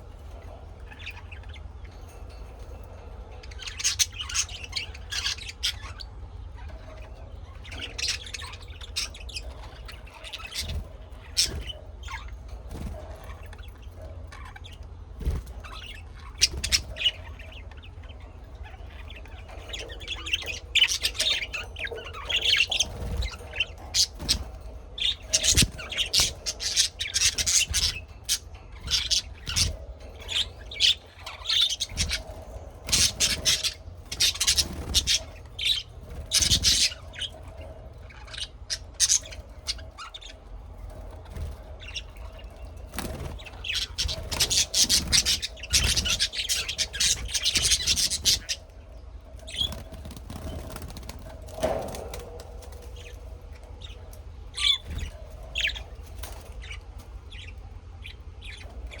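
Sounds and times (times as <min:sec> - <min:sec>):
birds calling high-pitched: 0:00.0 - 0:59.0.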